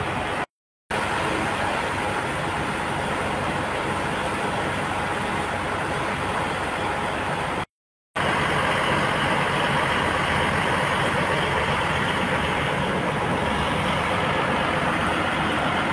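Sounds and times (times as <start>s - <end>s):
heavy truck engines running: 0.0s - 15.9s.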